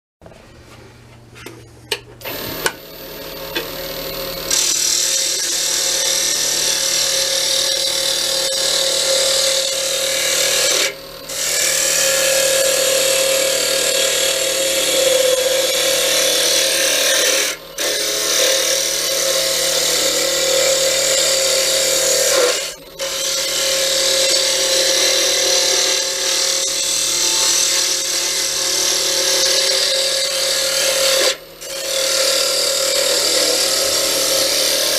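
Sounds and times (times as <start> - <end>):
lathe motor hum: 2.2 - 34.9.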